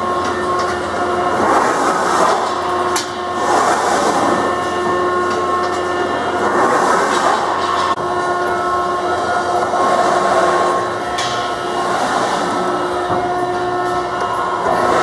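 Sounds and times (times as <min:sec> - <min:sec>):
hydraulic press running: 0:00.0 - 0:15.0.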